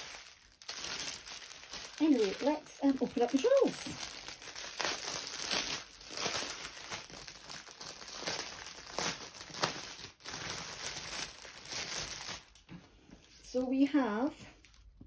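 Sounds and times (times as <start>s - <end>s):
plastic packaging crinkling: 0.0s - 13.7s, 14.6s - 15.0s.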